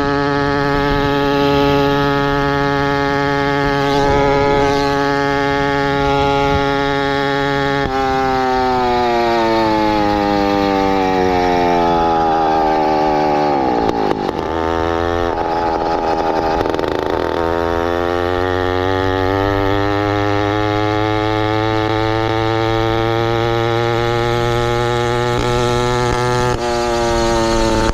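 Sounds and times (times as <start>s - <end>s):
small bicycle engine running: 0.0s - 27.9s.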